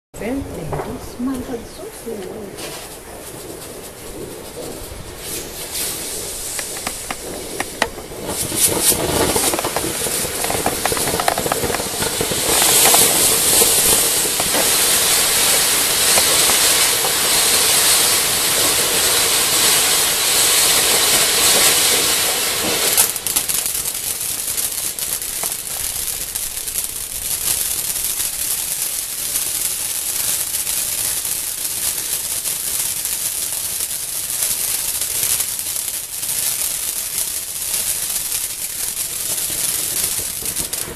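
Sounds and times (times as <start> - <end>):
firework crackling: 0.2 - 40.9
firework fountains hissing: 1.1 - 40.9
sharp crack: 2.2 - 40.9.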